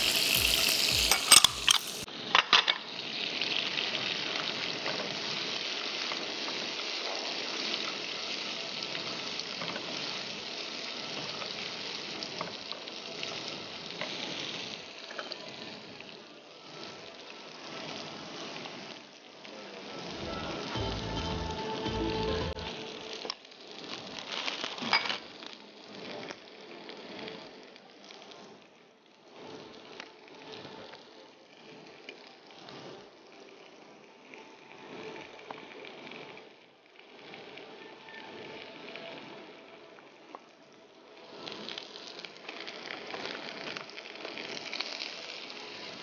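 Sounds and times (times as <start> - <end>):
dates and nuts sizzling in ghee: 0.0 - 46.0.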